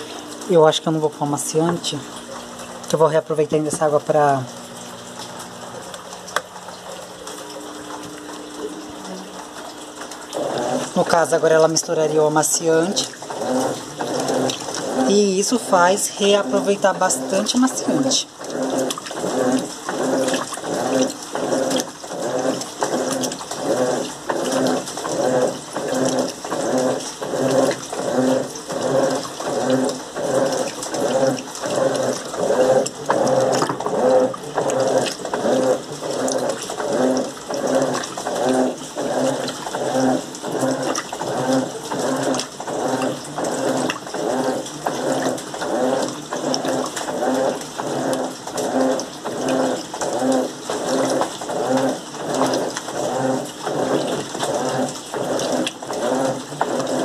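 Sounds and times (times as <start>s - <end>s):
washing machine agitating: 0.0s - 57.0s.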